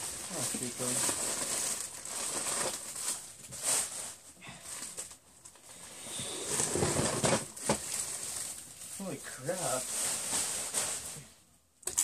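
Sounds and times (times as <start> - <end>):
plastic bags rustling: 0.0 - 11.4.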